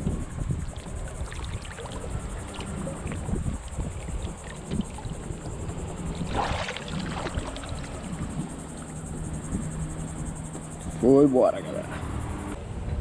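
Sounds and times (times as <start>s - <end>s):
fish splashing: 0.0s - 11.0s
water lapping against kayak hull: 0.0s - 11.1s.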